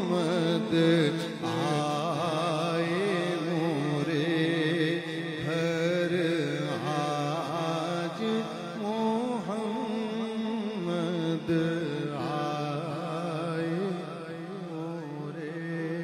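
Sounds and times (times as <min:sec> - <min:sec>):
man singing ornamented melody: 0:00.0 - 0:16.0.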